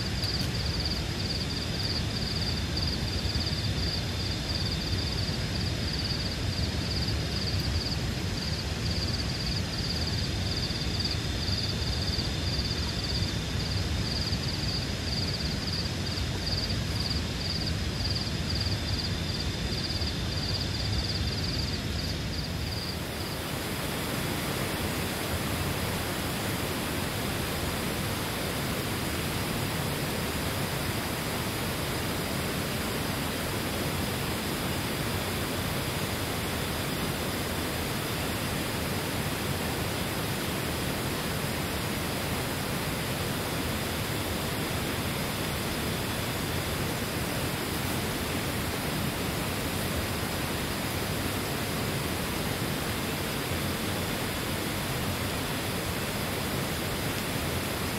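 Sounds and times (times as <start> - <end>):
heavy rain hiss: 0.0 - 57.9.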